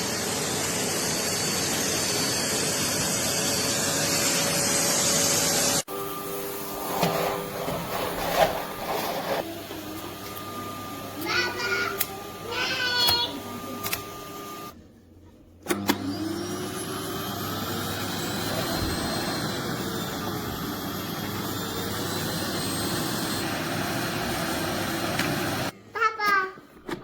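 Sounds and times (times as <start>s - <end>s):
vacuum cleaner running: 0.0s - 14.8s, 15.6s - 25.8s.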